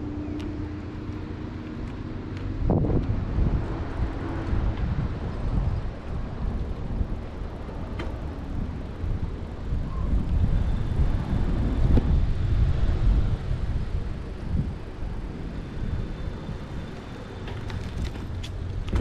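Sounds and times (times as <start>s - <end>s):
wind buffeting microphone: 1.9s - 19.0s.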